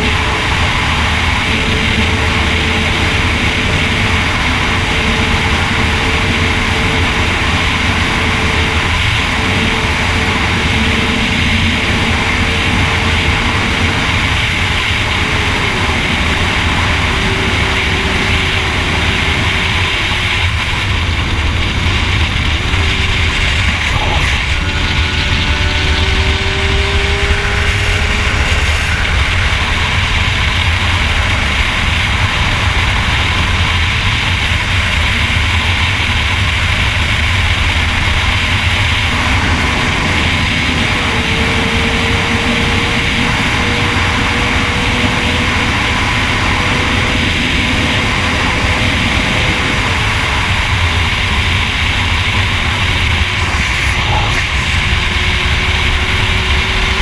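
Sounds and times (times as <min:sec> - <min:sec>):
motorcycle engine: 0:00.0 - 0:57.0
wind rush on microphone: 0:00.0 - 0:57.0.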